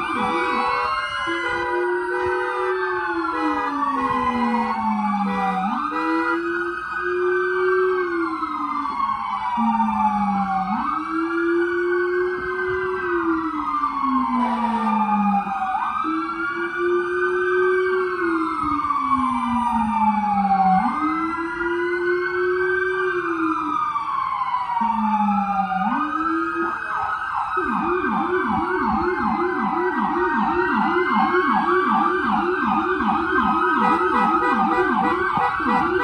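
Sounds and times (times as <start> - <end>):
emergency sirens wailing: 0.0 - 36.0.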